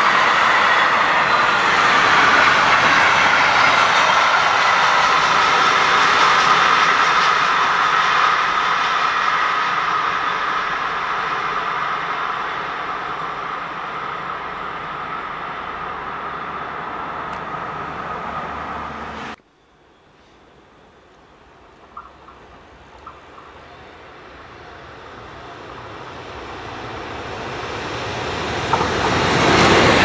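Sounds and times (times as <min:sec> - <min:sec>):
train wagons rolling on rails: 0:00.0 - 0:19.4, 0:20.0 - 0:30.0.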